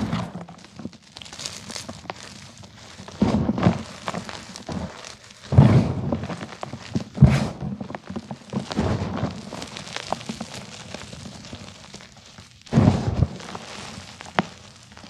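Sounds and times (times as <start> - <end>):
hands crunching chalk: 0.0 - 15.0.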